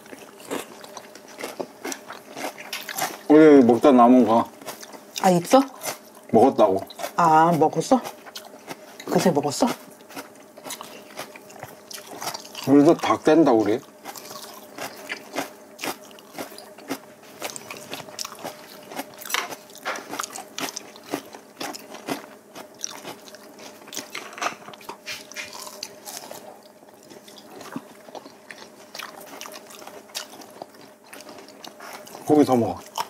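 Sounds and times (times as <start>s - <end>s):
chewing and mouth clicks: 0.0s - 3.3s, 4.6s - 13.2s, 14.0s - 33.0s
faint steady hum: 0.0s - 33.0s.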